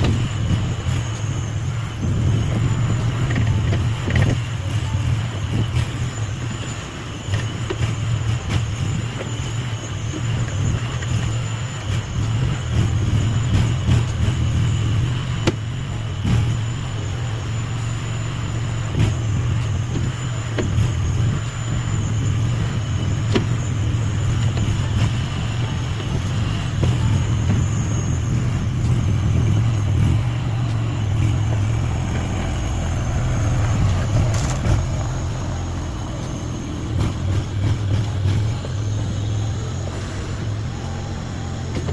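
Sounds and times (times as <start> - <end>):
faint high whine: 0.0 - 41.9
small engine running: 0.0 - 41.9.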